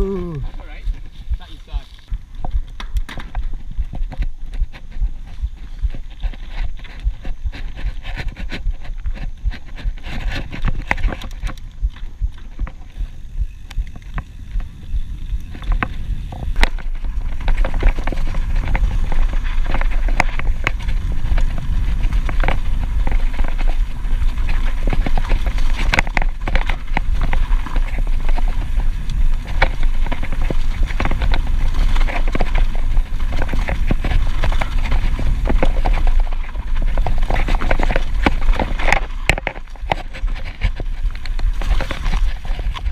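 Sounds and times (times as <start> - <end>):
bike rattling and knocking: 0.0 - 42.9
bike tyres on rough ground: 0.0 - 42.9
wind on microphone: 0.0 - 42.9.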